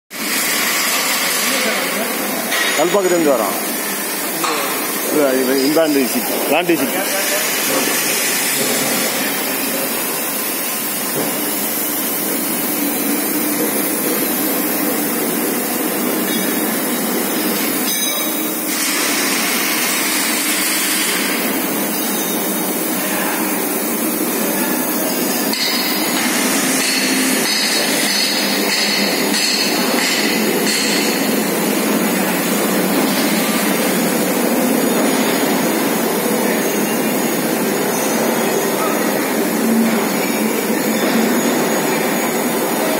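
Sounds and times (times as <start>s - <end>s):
continuous machinery noise: 0.1s - 42.9s.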